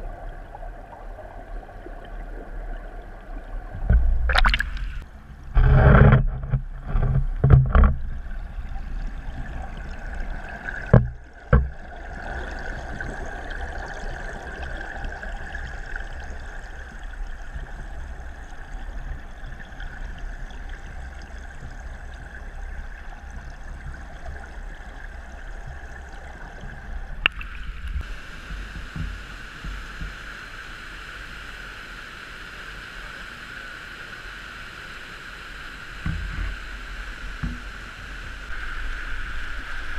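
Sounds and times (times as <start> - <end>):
water rushing underwater: 0.0 - 5.8, 8.0 - 33.5, 35.5 - 39.9.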